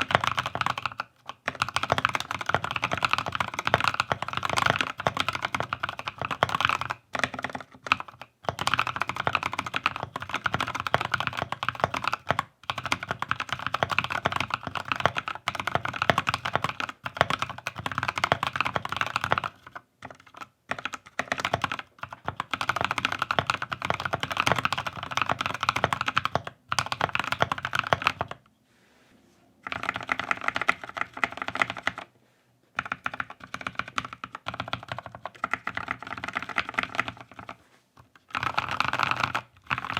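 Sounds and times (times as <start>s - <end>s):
mechanical keyboard typing: 0.0s - 28.4s, 29.6s - 32.1s, 32.8s - 37.6s, 38.2s - 39.9s.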